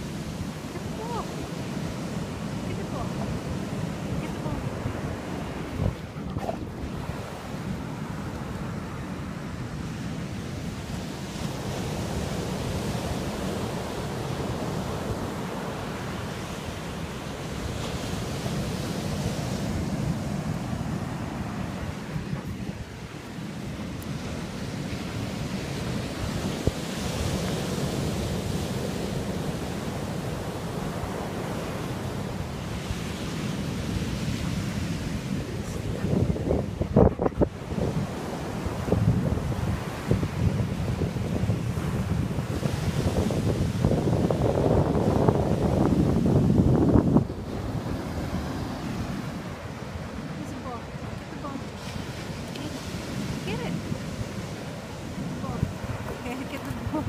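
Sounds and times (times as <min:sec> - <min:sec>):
ocean surf breaking: 0:00.0 - 0:57.0
wind blowing across microphone: 0:00.0 - 0:57.0.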